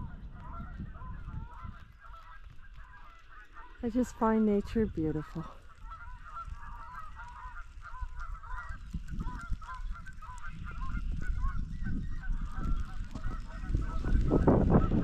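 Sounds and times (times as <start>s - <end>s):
distant flock of birds chattering: 0.0s - 15.0s.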